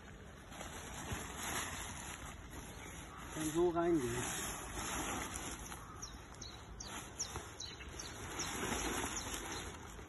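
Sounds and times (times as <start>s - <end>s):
steady outdoor hiss: 0.0s - 10.0s
small birds chirping: 1.6s - 10.0s.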